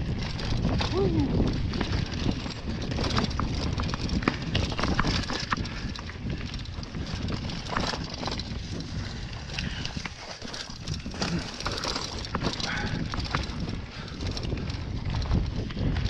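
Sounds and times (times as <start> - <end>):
bike clacks and rattles: 0.0 - 16.0
bike tyres over stones: 0.0 - 16.0
wind rumble on microphone: 0.0 - 16.0.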